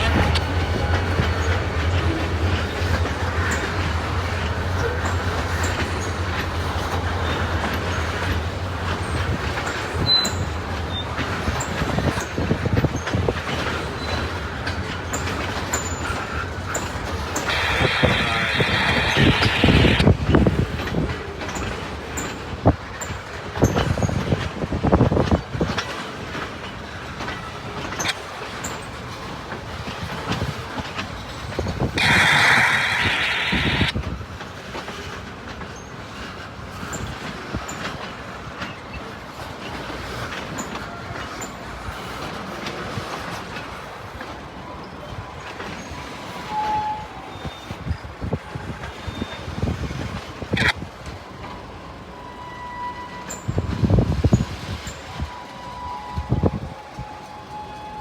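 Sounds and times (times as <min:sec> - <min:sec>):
freight train wheels clicking on rails: 0:00.0 - 0:58.0.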